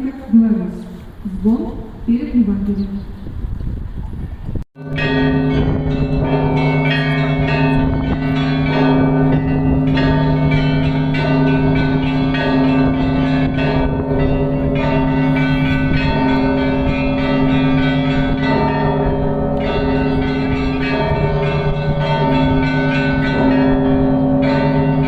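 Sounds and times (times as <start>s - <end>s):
large church bells tolling: 4.8s - 25.0s
small church bells ringing quickly: 4.8s - 25.0s.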